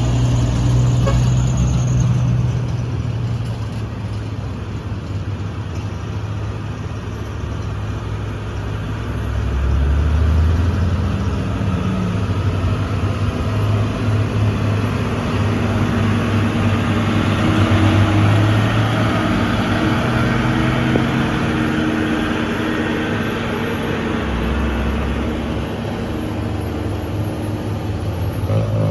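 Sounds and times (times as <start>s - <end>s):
diesel truck engine pulling hard: 0.0s - 28.9s.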